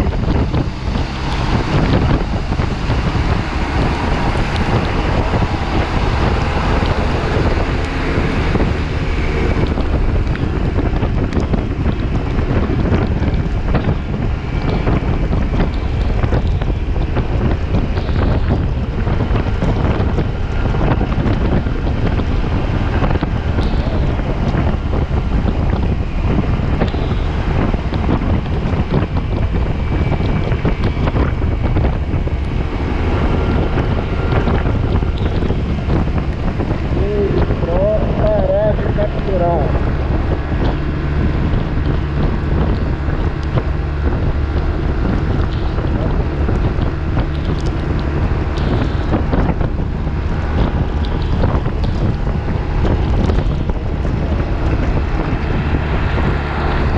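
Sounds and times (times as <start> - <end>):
wet road spray noise: 0.0 - 56.9
wind buffeting microphone: 0.0 - 56.9.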